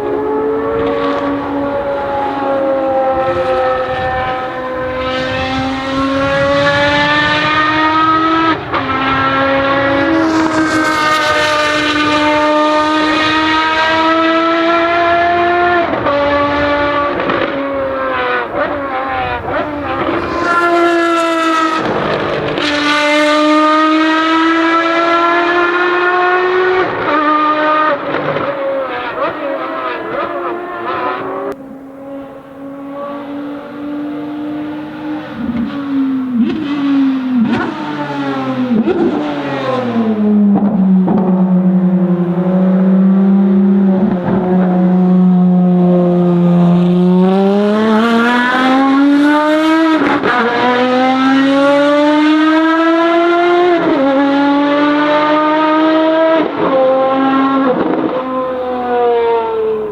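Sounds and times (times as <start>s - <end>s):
engine revving under acceleration: 0.0s - 59.9s.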